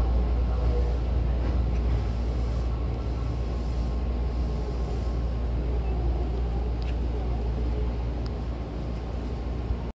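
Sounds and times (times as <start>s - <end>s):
train rumbling along track: 0.0s - 9.9s.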